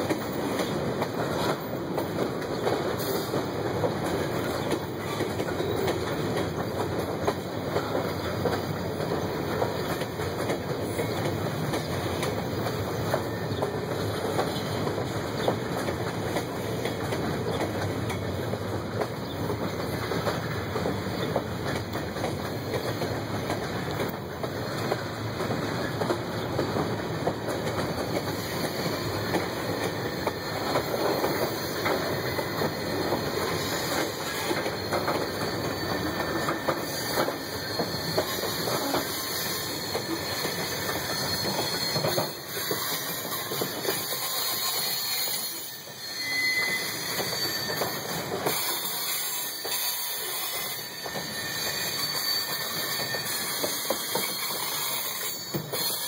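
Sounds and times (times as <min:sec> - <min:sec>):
wheels clicking over rail joints: 0:00.0 - 0:45.6
freight train wheels rumbling: 0:00.0 - 0:56.0.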